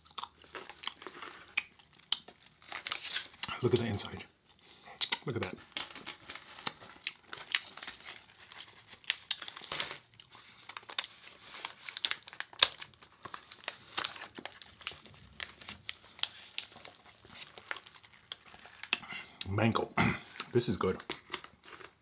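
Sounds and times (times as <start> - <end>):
paper wrapper crinkling and tearing: 0.4 - 4.2, 5.3 - 19.4, 20.4 - 22.0.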